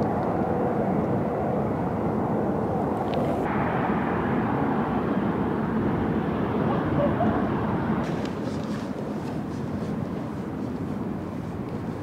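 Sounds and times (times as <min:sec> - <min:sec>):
city hiss: 0:00.0 - 0:12.0
distant traffic rumble: 0:00.0 - 0:12.0.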